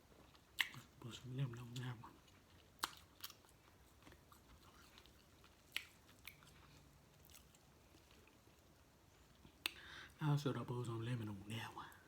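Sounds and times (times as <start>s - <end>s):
chewing seafood: 0.0s - 9.8s.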